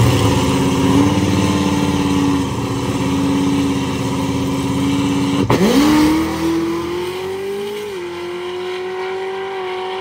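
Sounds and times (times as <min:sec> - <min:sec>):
loud car engine at steady revs: 0:00.0 - 0:10.0.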